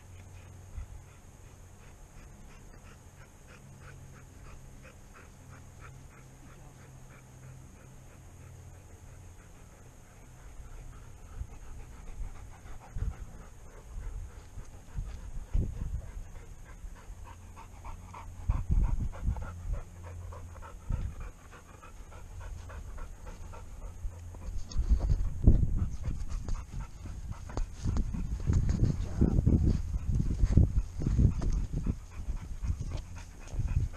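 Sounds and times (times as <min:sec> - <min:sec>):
dog panting: 0:00.1 - 0:33.9.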